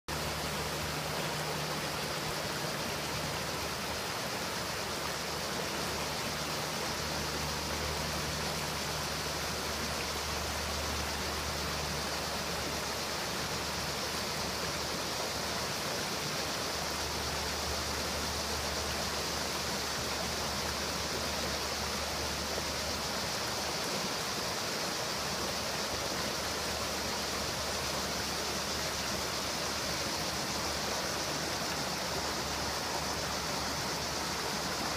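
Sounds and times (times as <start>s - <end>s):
creek water rushing over rocks: 0.1s - 34.9s.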